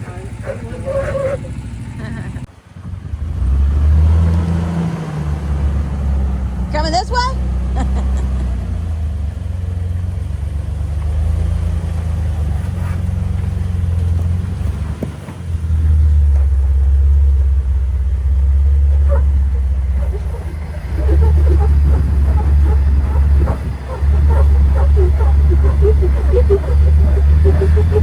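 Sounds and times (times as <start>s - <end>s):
engine rumbling at low revs: 0.0s - 28.0s.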